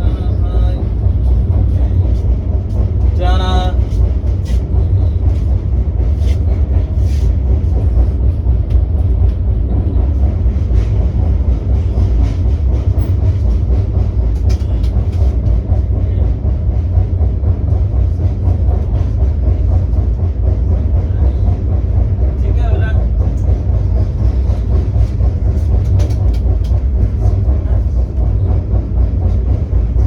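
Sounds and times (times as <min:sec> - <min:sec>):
moving vehicle rumble: 0:00.0 - 0:30.0.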